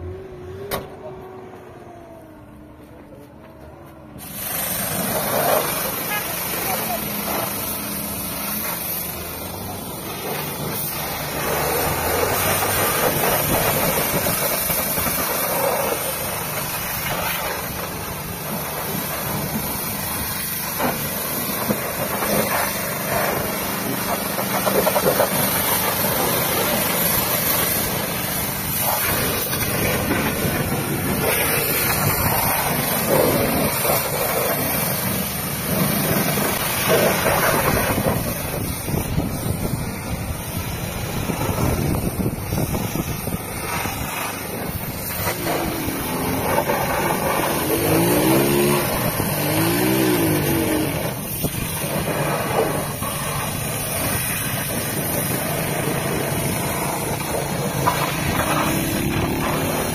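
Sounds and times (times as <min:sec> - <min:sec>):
hose water spraying on metal: 0:04.2 - 0:59.9.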